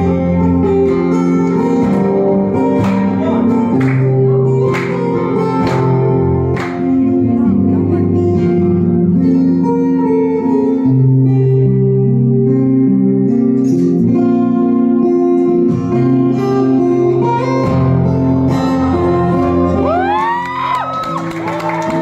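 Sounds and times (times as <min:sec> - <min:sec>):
solo acoustic guitar melody: 0:00.0 - 0:20.0.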